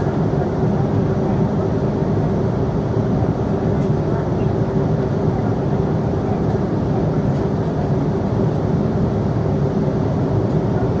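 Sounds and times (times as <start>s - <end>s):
airliner cabin engine noise: 0.0s - 11.0s.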